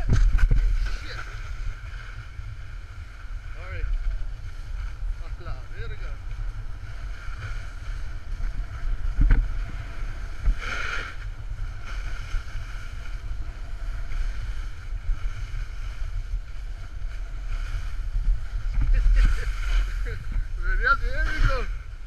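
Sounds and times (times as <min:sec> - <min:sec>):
snowboards sliding on snow: 0:00.0 - 0:22.0
wind buffeting microphone: 0:00.0 - 0:22.0.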